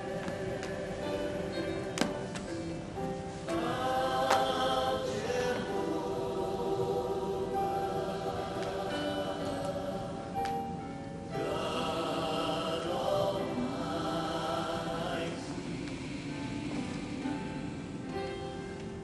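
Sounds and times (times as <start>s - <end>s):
choral music: 0.0s - 19.0s.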